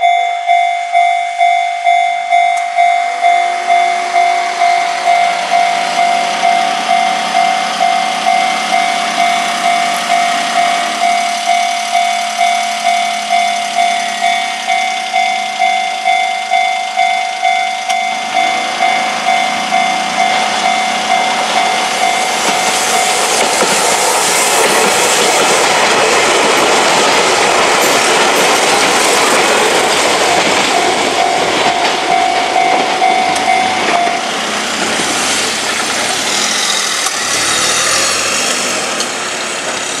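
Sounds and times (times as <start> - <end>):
level-crossing warning bell ringing: 0.0 - 39.7
electric train passing: 0.0 - 40.0.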